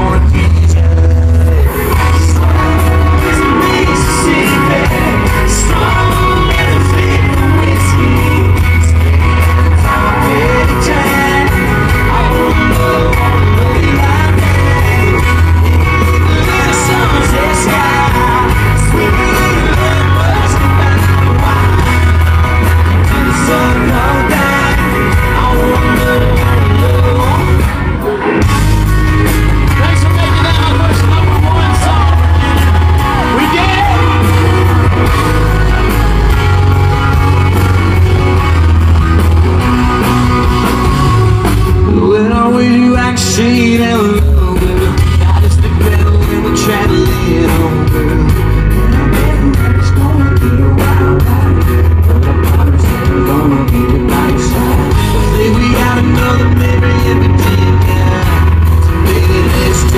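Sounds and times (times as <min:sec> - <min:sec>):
electric guitar: 0:00.0 - 0:59.9
heavy bass: 0:00.0 - 0:59.9
lead singer singing: 0:00.0 - 0:59.9
live band playing: 0:00.0 - 0:59.9.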